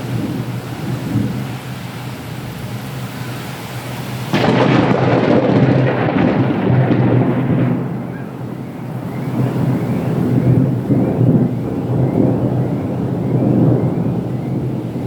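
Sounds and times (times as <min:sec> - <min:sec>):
thunder crack and rumble: 0:00.0 - 0:02.8, 0:04.3 - 0:15.0
steady rain: 0:00.0 - 0:15.0.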